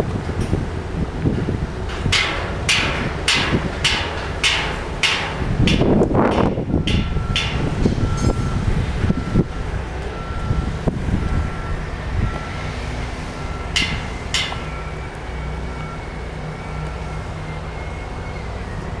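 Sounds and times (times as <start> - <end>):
construction vehicle engine running: 0.0 - 19.0
high whine: 0.0 - 19.0
reversing alarm beeping: 3.1 - 19.0.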